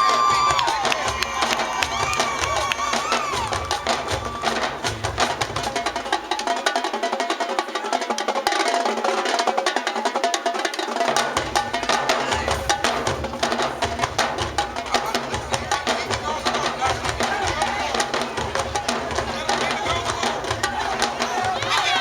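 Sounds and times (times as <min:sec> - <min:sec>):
marching band playing: 0:00.0 - 0:22.0
rapid drum strikes: 0:00.0 - 0:22.0.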